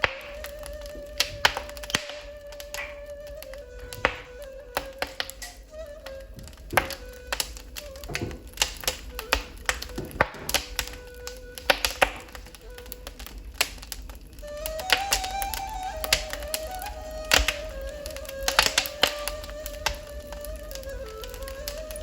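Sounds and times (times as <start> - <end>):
ney flute melody: 0.0 - 22.0
wood fire crackling and popping: 0.0 - 22.0.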